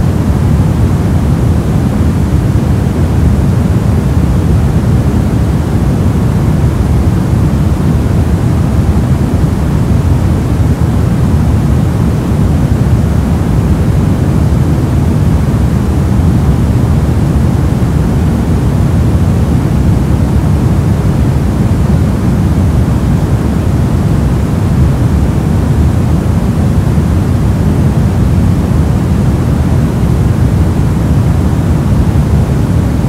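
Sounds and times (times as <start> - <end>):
deep static noise: 0.0 - 33.0.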